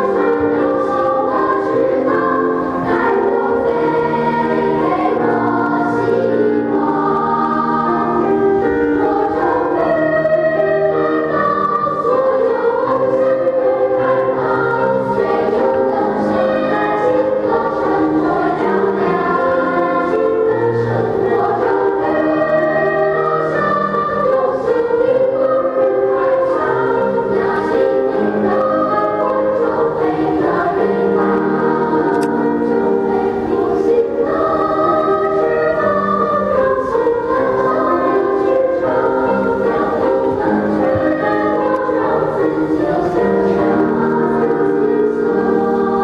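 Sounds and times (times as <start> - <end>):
children's choir singing: 0.0 - 46.0.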